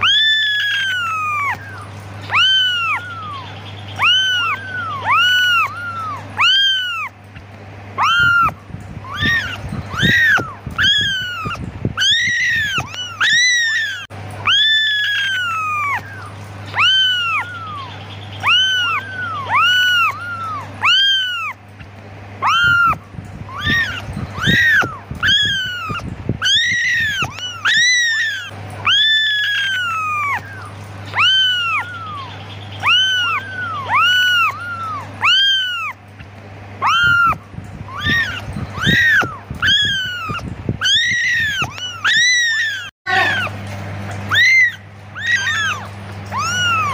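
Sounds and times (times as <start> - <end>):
kittens meowing: 0.0 - 7.3, 8.0 - 43.6, 44.2 - 46.9.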